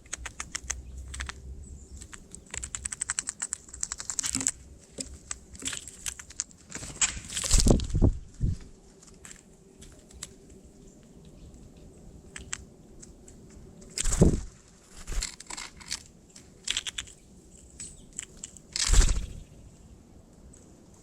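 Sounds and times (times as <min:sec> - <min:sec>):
birds clicking and scraping: 0:00.0 - 0:08.0, 0:08.8 - 0:19.9
wings fluttering: 0:00.0 - 0:10.5, 0:12.3 - 0:17.2, 0:18.1 - 0:19.6.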